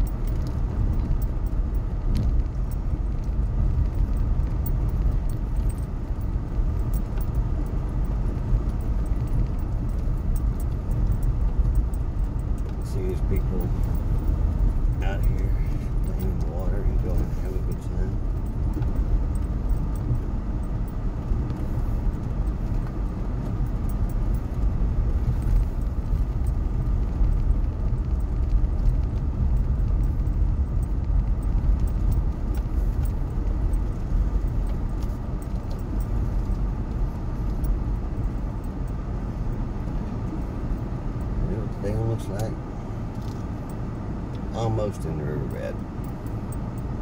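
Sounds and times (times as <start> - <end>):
engine and road rumble: 0.0 - 47.0
small ticks and rattles: 0.0 - 47.0.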